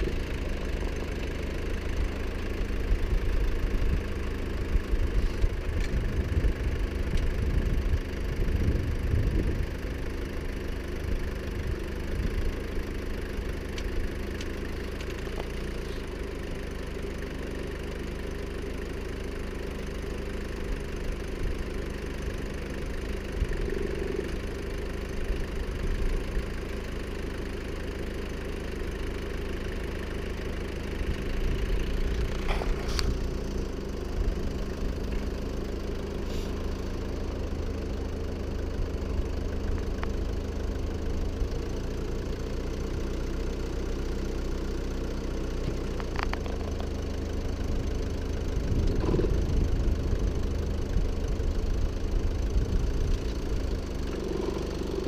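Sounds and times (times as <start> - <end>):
backhoe engine running: 0.0 - 55.0.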